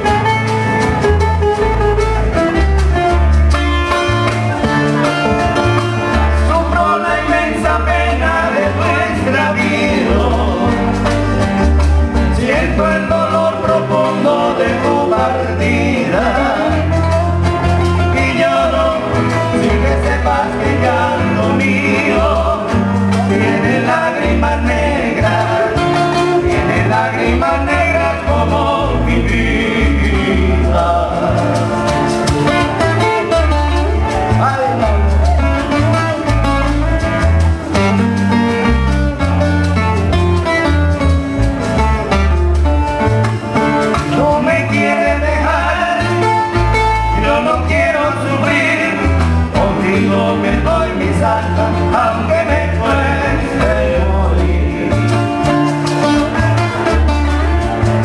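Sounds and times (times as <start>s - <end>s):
acoustic guitars picking melody: 0.0s - 58.0s
maracas shaking: 0.0s - 58.0s
plucked bass line: 0.0s - 58.0s.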